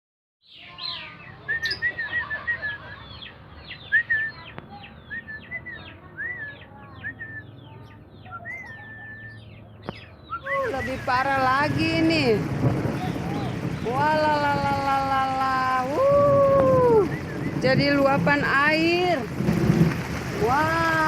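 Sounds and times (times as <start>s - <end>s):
birds chirping: 0.4s - 21.0s.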